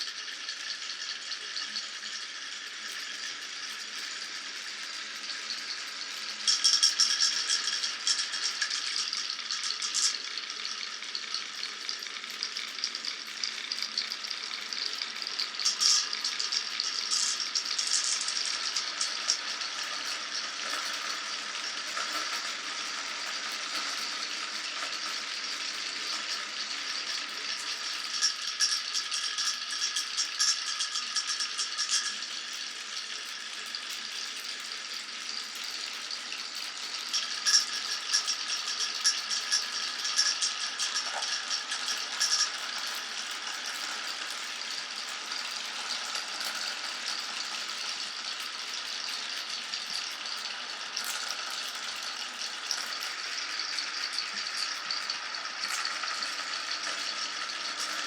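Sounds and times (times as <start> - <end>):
marbles rattling down wooden run: 0.0 - 58.0.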